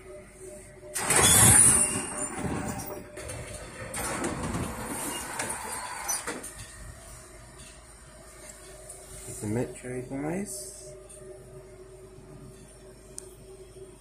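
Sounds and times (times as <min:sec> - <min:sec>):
tram running noise: 0:00.0 - 0:14.0.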